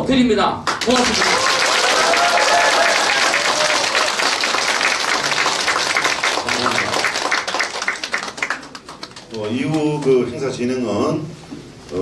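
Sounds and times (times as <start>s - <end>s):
audience clapping: 0.6s - 10.4s.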